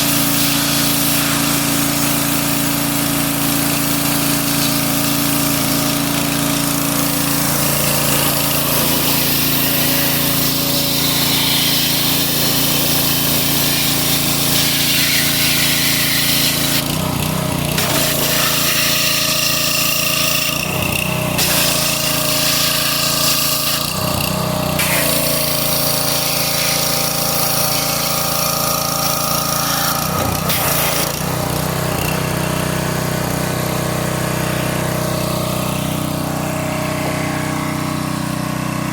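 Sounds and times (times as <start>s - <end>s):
motor-driven machine running: 0.0s - 38.9s.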